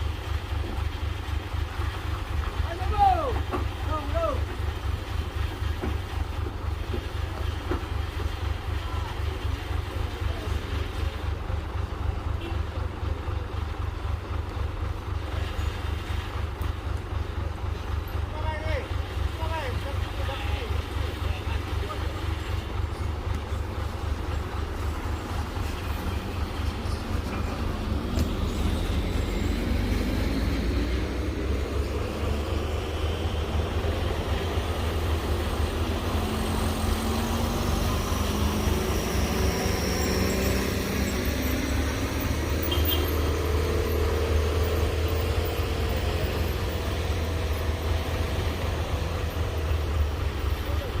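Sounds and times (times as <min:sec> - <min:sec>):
diesel truck engine labouring: 0:00.0 - 0:51.0.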